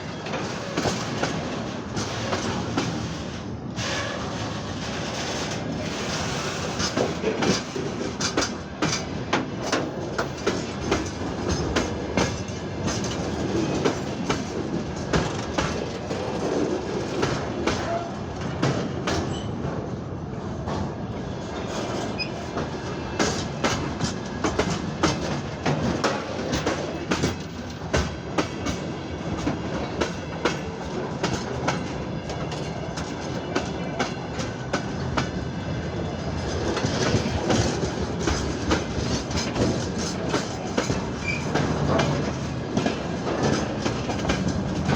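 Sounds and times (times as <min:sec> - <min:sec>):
train wheels clattering over rail joints: 0:00.0 - 0:19.9, 0:21.6 - 0:44.9
train rumble: 0:00.0 - 0:44.9.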